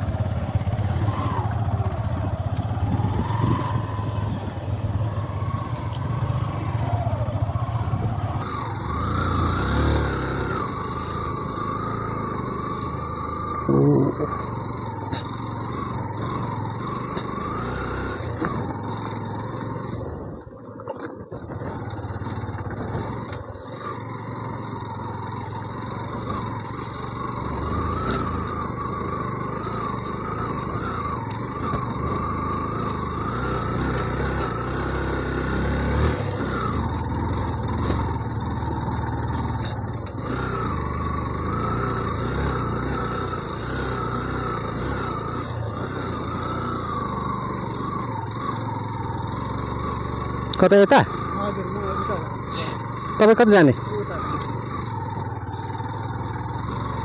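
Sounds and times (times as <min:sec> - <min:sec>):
motorcycle engine revving: 0:00.0 - 0:20.4, 0:21.4 - 0:57.0.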